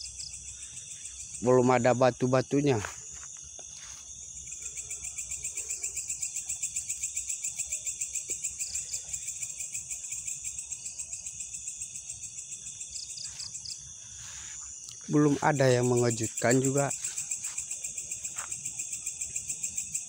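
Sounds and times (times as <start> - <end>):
crickets chirping: 0.0 - 20.0
high-pitched insect drone: 0.0 - 20.0
loud pulsing insect trill: 0.0 - 20.0.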